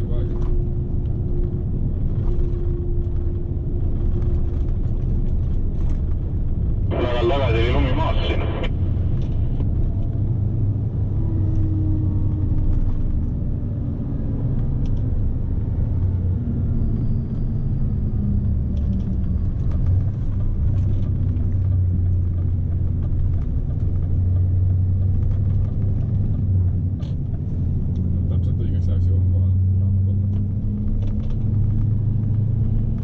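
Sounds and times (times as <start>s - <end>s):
road noise: 0.0s - 33.0s
truck diesel engine drone: 0.0s - 33.0s.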